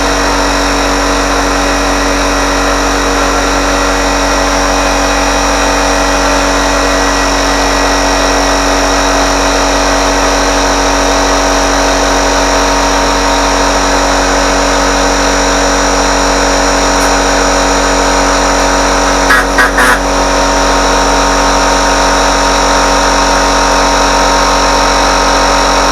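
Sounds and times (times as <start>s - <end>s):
motor running steadily: 0.0s - 25.9s.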